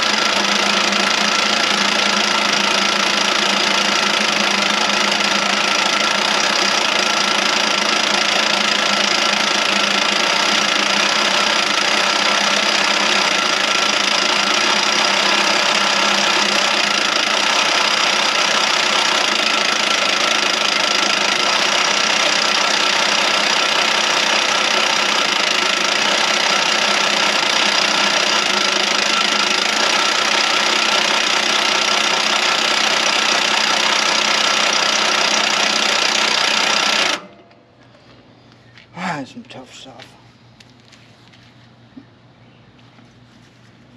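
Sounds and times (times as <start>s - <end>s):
electric drill boring through steel: 0.0s - 37.4s.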